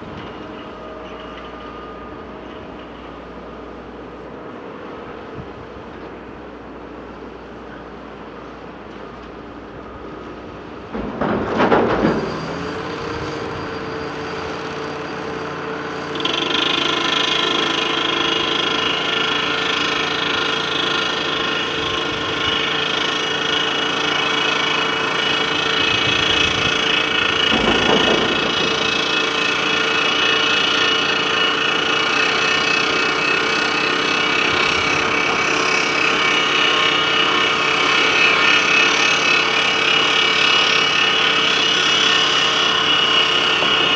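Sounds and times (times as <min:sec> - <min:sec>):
diesel engines and hydraulics: 0:00.0 - 0:43.9
machine whine: 0:00.0 - 0:43.9.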